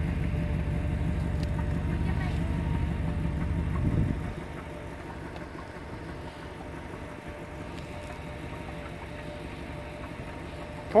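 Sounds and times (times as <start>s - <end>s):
low rumble: 0.0s - 10.9s
engine idling: 0.0s - 11.0s.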